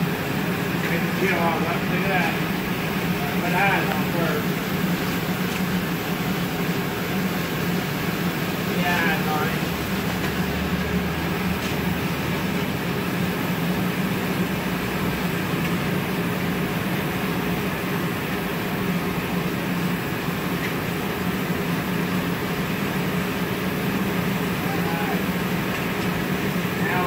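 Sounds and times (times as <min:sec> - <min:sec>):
furnace burners roaring: 0:00.0 - 0:27.0.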